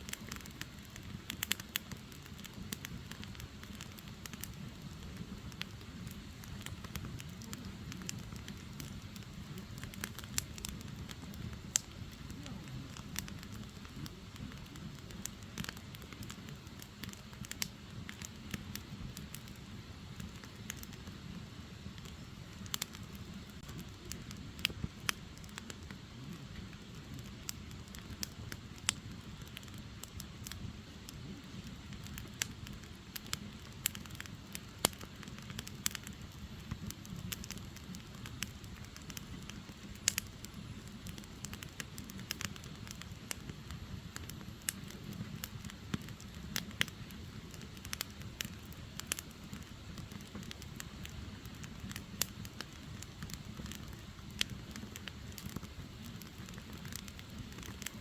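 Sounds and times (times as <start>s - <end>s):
firewood crackling and popping: 0.0s - 58.0s
flame rushing: 0.0s - 58.0s.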